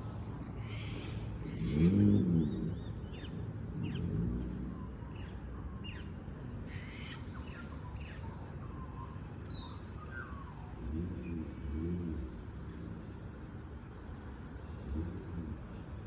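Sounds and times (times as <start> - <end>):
birds chirping: 0.0 - 16.0
low engine sound: 0.0 - 16.0.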